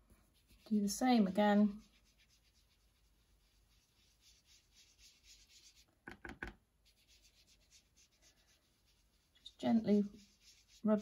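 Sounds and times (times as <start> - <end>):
foam sponge brushing on card: 0.2 - 6.2, 6.8 - 11.0.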